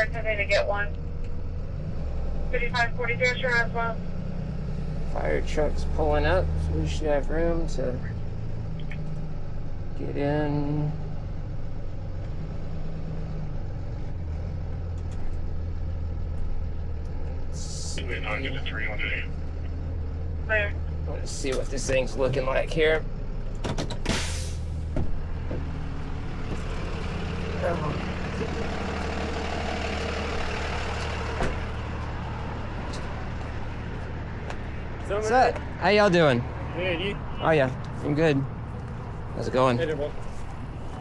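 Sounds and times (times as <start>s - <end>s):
tow truck engine drone: 0.0s - 41.0s.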